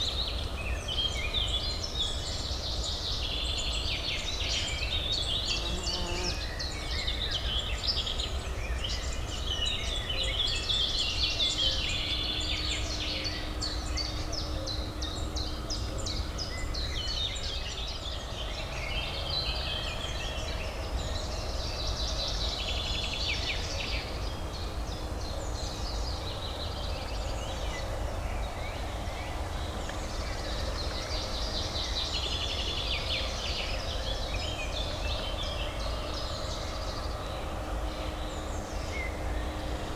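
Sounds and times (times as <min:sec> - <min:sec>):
low urban hum: 0:00.0 - 0:39.9
songbirds chirping and trilling: 0:00.0 - 0:39.9.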